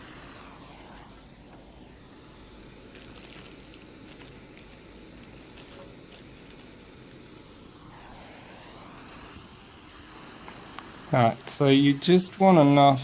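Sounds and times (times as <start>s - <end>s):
solder sizzling and crackling: 0.0s - 13.0s
steady hiss: 0.0s - 13.0s
thin high whine: 0.0s - 13.0s.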